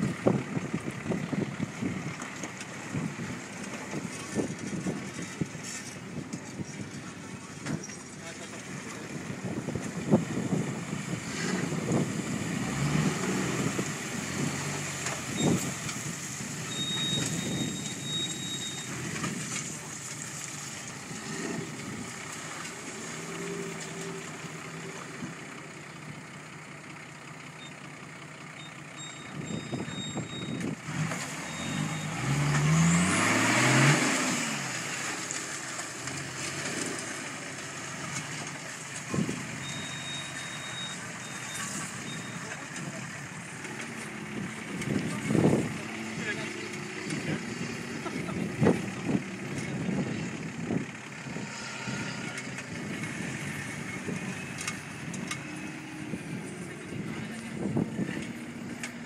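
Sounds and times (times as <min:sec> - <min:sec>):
truck engine running under load: 0:00.0 - 0:59.0
truck wading through mud and water: 0:00.0 - 0:59.0.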